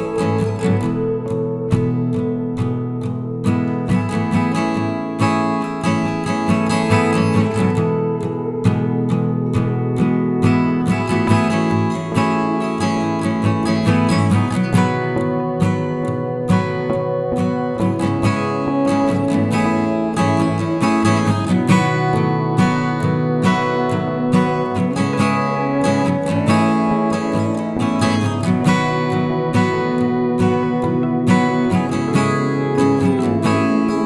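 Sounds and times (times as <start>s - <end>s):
strummed plucked strings: 0.0s - 34.0s.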